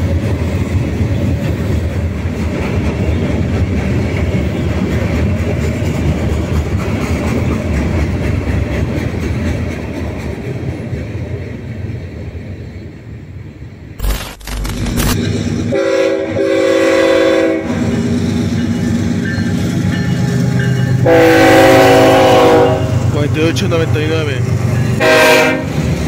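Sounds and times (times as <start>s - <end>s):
train wheels rumbling on rails: 0.0s - 14.0s, 14.7s - 26.0s.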